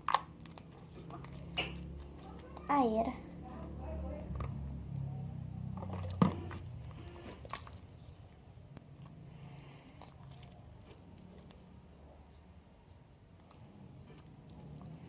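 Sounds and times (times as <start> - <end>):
wet slime squishing: 0.0 - 2.9, 4.4 - 15.0.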